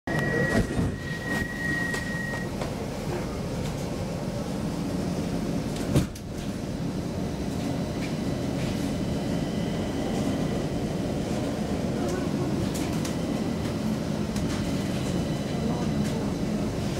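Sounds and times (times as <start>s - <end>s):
low rumble of standing train: 0.1s - 16.9s.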